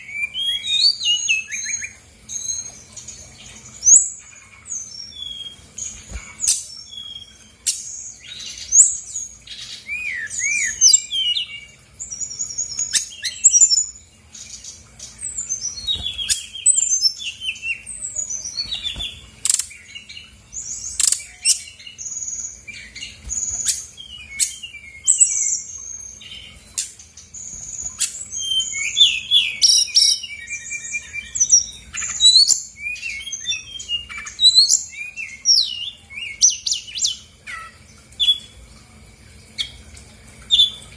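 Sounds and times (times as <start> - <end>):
bird singing varied song: 0.0 - 38.7.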